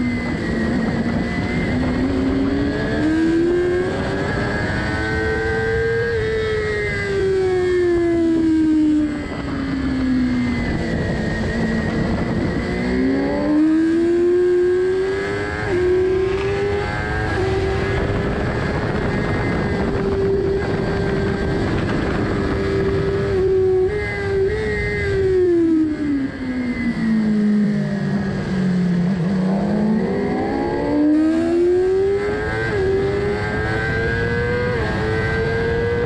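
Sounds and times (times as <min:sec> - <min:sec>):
motorcycle engine revving: 0:00.0 - 0:36.0
wind rush over microphone: 0:00.0 - 0:36.0.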